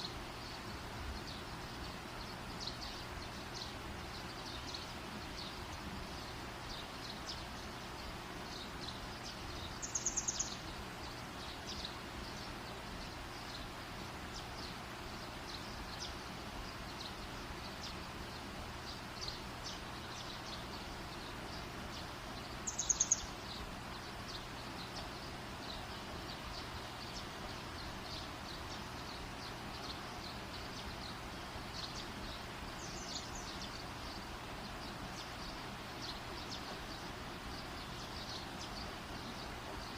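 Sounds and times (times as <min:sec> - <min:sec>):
campfire crackling and hissing: 0:00.0 - 0:39.9.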